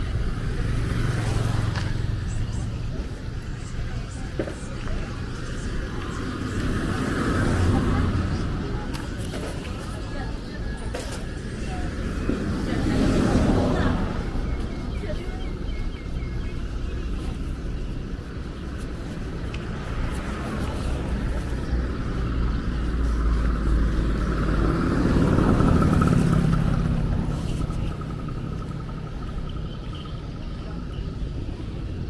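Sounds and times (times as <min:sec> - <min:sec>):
steady low street rumble: 0:00.0 - 0:32.0.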